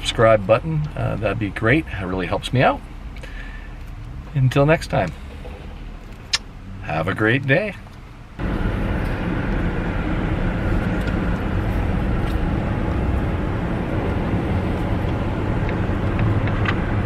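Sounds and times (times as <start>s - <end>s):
pickup engine and tyre noise: 0.0s - 17.0s.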